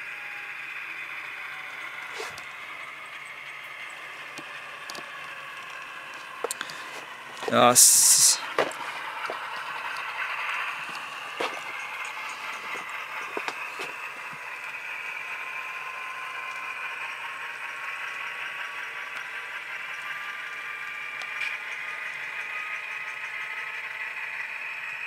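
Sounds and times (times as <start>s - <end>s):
thin engine drone from small speaker: 0.0s - 25.0s.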